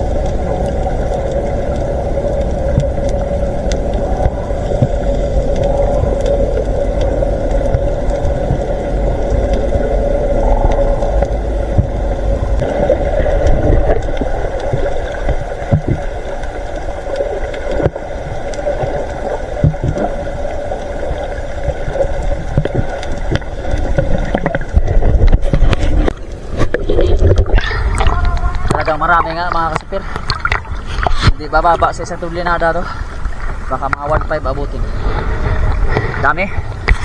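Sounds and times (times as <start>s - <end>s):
boat engine underwater: 0.0s - 37.0s
splashing and bubbling: 0.0s - 37.0s.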